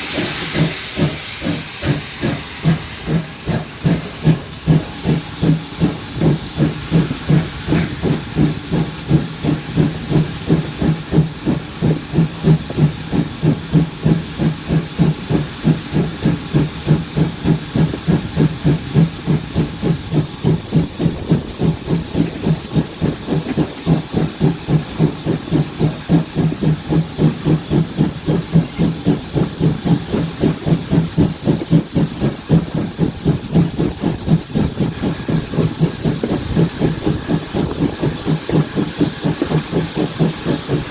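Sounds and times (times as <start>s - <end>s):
steam hiss: 0.0s - 40.9s
steam locomotive exhaust beats: 0.0s - 40.9s.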